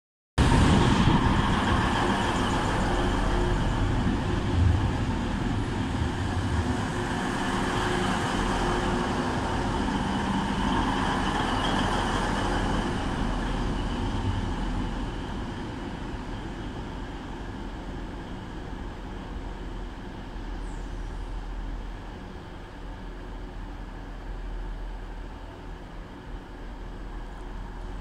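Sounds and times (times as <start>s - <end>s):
train wheels rumbling: 0.4s - 28.0s.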